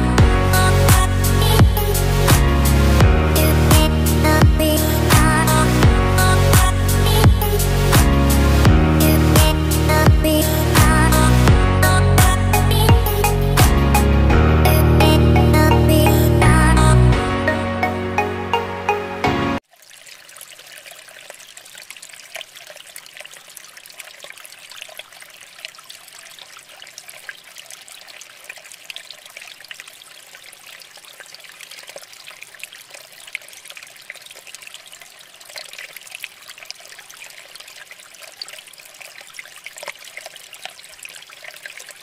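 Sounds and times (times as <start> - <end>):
fountain water trickling and splashing: 0.0 - 13.6, 19.6 - 42.0.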